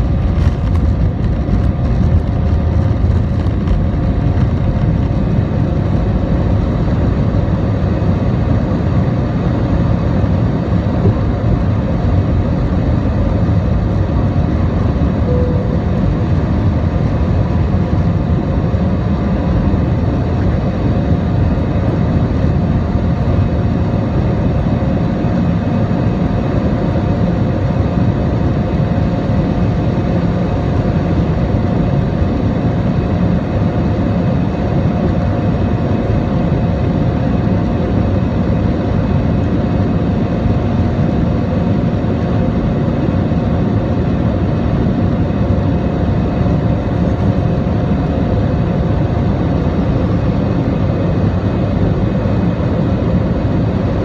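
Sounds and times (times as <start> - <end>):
faint engine whine: 0.0 - 54.0
jet engine cabin rush: 0.0 - 54.0.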